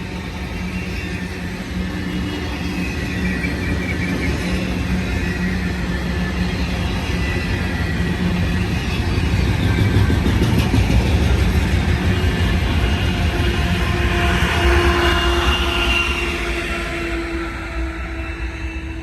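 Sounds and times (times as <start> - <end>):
railcars rumbling on rails: 0.0 - 19.0.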